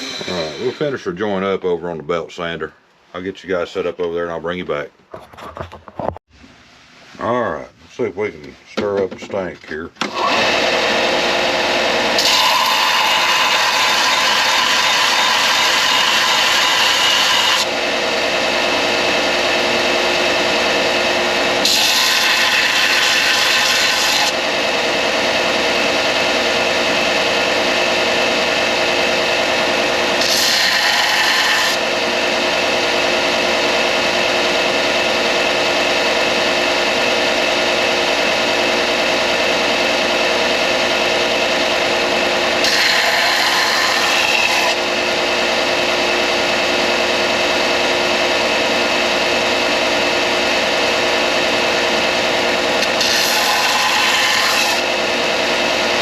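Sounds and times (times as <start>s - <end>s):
belt sander running: 0.0s - 1.1s, 10.0s - 56.0s.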